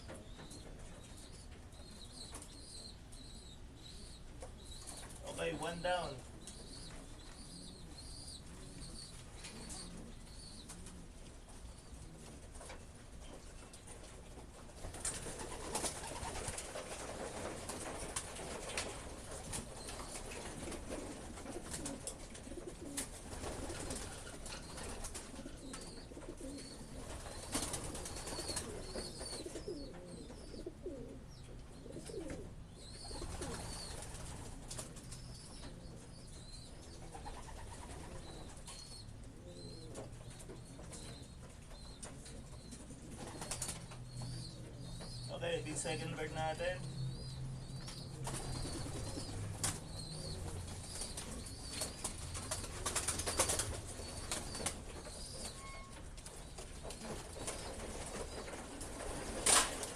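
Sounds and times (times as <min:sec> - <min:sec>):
pigeons cooing: 0:00.0 - 0:59.9.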